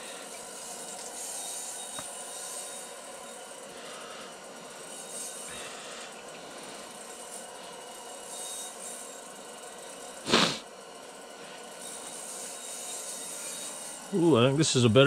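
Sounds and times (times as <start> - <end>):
propane heater hissing: 0.0 - 15.0.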